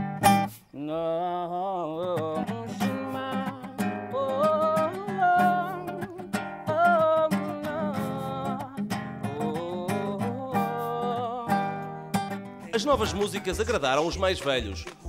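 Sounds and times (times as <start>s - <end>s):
acoustic guitar: 0.0s - 15.0s
man singing: 0.7s - 15.0s.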